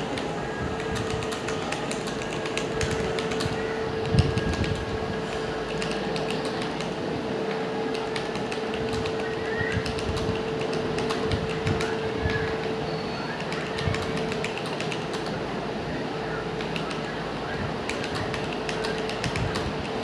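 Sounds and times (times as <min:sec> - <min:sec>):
steady hum: 0:00.0 - 0:20.0
keyboard typing: 0:00.1 - 0:07.0, 0:07.8 - 0:12.7, 0:13.3 - 0:15.4, 0:16.6 - 0:17.1, 0:17.8 - 0:20.0.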